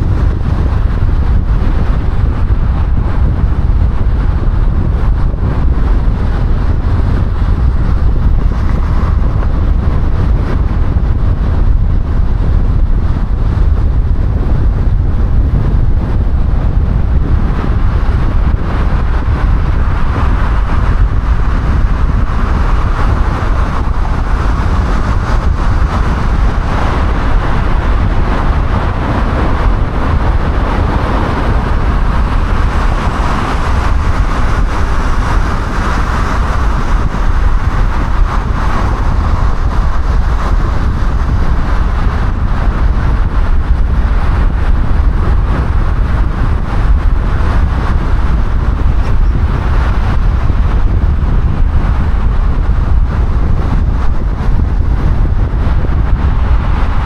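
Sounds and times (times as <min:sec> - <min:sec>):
car road noise at speed: 0:00.0 - 0:57.0
wind noise: 0:00.0 - 0:57.0.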